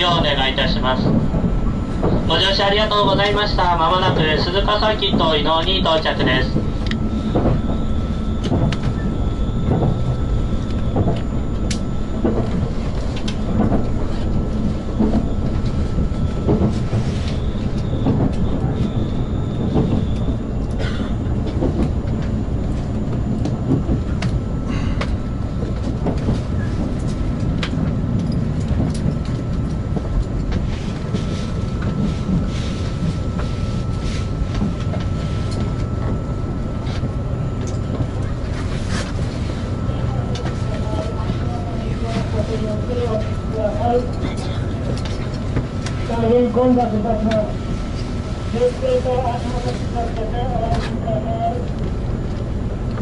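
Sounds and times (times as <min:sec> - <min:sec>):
thin steady whine: 0:00.0 - 0:53.0
train rumble: 0:00.0 - 0:53.0.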